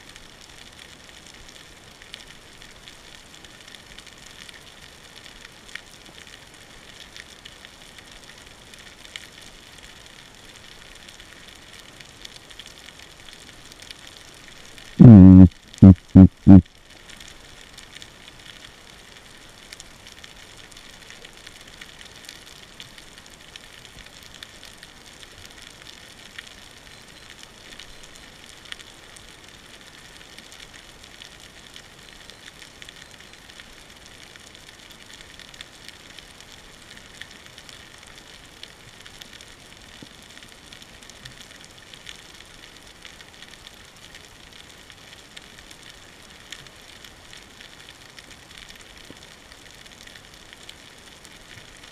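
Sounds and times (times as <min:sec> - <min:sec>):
underwater crackle of tiny clicks: 0:00.0 - 0:15.0, 0:16.6 - 0:51.9.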